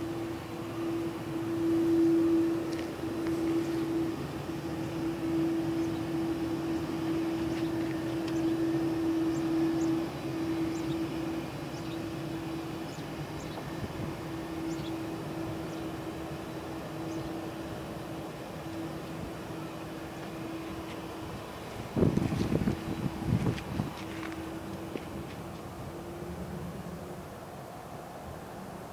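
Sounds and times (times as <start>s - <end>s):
jet engines humming: 0.0s - 28.9s.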